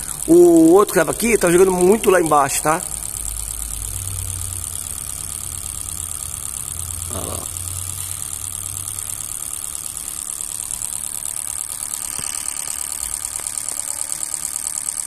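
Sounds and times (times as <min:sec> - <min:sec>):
fuel injectors clicking: 0:00.0 - 0:15.0
low machine hum: 0:00.0 - 0:15.0.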